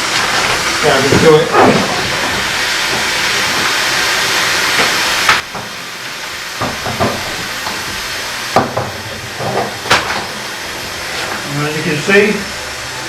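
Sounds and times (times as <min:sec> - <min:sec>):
steam hissing through pipe: 0:00.0 - 0:13.0.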